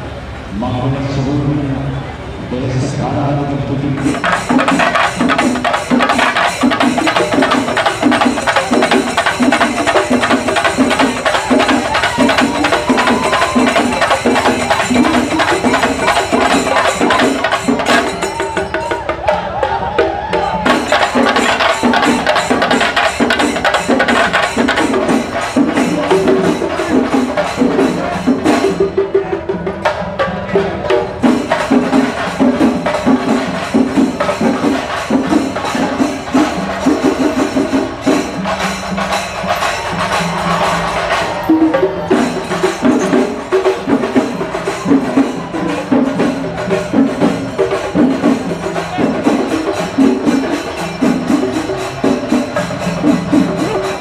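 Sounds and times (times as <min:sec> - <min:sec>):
drum ensemble beaten with sticks: 0:03.8 - 0:54.0.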